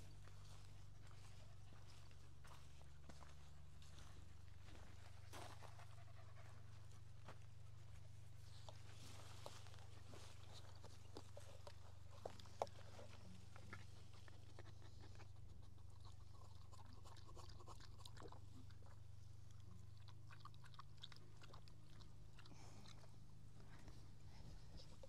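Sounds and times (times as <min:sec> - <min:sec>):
faint crackles and ticks: 0:00.6 - 0:25.0.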